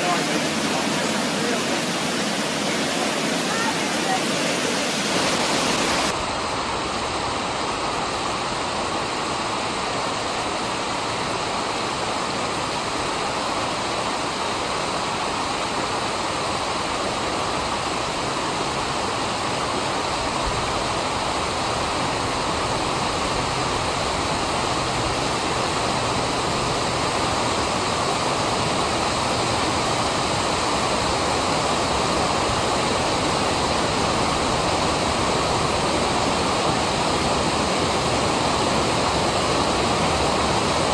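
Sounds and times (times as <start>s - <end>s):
creek water rushing over rocks: 0.0s - 40.9s.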